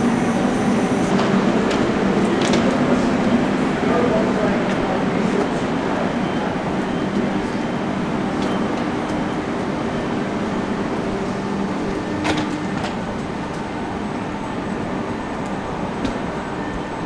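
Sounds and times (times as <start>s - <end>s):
train equipment humming: 0.0s - 17.0s.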